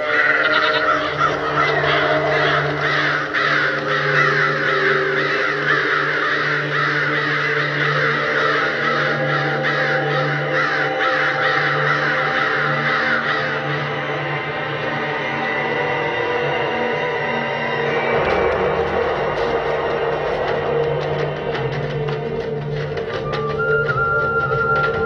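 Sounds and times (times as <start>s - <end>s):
flock of birds calling: 0.0s - 25.0s
low steady drone: 0.0s - 25.0s.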